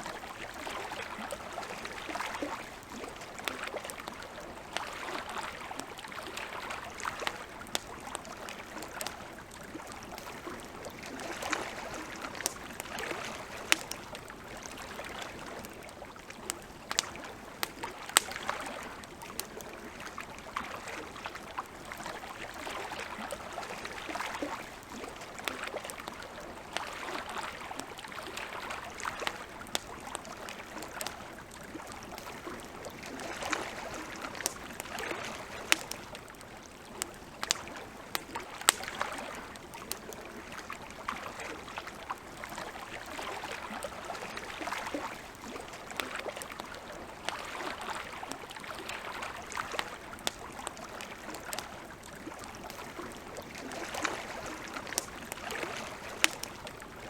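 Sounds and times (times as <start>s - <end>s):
campfire crackling: 0.0s - 57.0s
lake water lapping: 0.0s - 57.0s.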